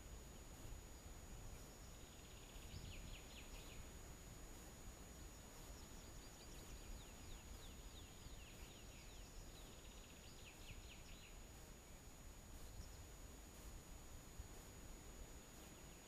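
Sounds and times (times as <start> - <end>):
faint songbird song: 0.0 - 16.0
low hiss: 0.0 - 16.0.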